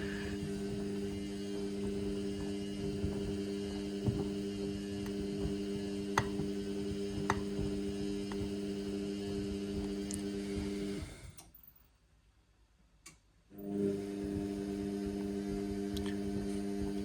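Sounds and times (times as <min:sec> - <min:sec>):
washing machine motor humming: 0:00.0 - 0:11.4, 0:13.5 - 0:17.0.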